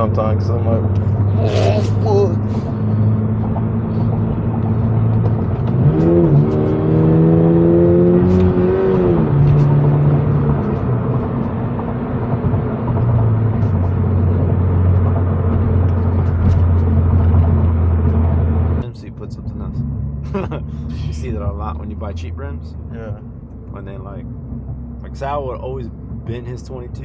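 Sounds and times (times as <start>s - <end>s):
car engine revving inside cabin: 0.0s - 27.0s.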